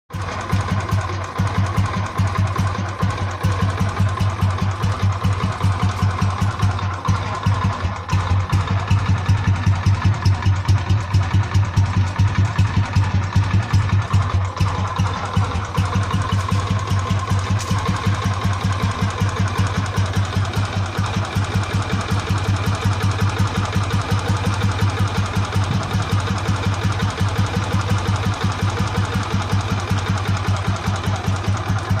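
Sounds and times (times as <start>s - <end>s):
motorcycle engine idling: 0.1s - 32.0s.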